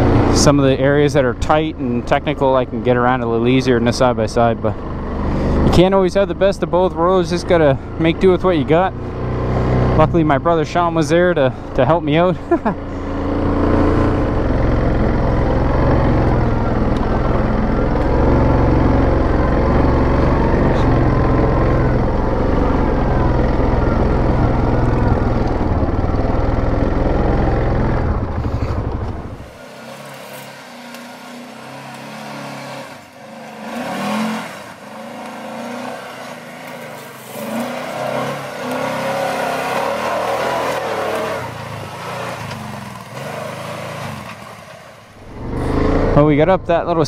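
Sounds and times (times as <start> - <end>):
deep engine rumble: 0.0 - 47.0
engine revving in surges: 0.0 - 47.0.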